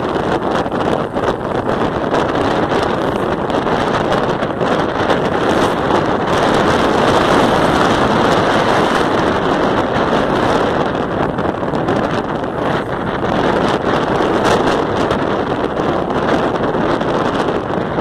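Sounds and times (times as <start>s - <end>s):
tyre noise on wet road: 0.0s - 18.0s
wind buffeting microphone: 0.0s - 18.0s.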